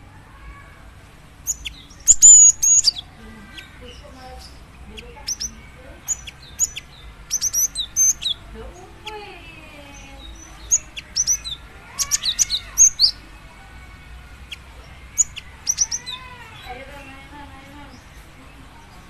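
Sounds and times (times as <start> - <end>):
bird chirping: 1.4 - 19.0.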